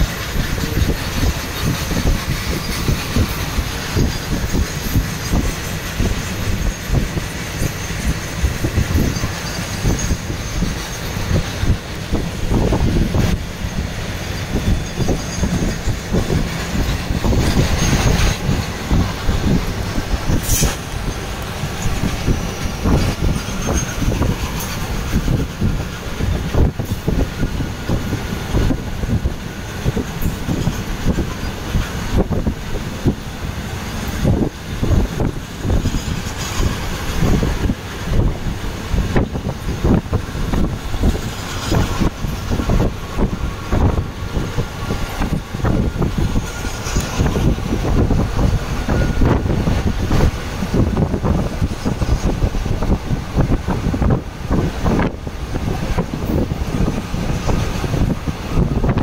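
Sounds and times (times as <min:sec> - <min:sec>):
train wheels rumbling on rails: 0:00.0 - 0:59.0
wheels knocking on rails: 0:00.0 - 0:59.0.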